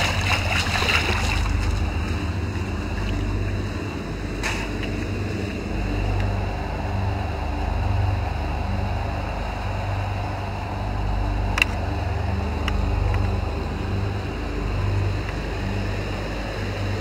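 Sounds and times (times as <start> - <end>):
low rumbling outdoor noise: 0.0 - 17.0.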